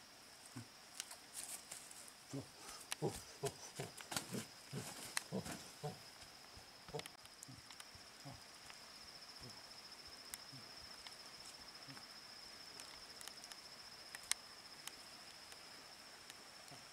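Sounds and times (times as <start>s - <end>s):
insect trilling: 0.4s - 16.9s
faint ticks: 2.6s - 16.9s.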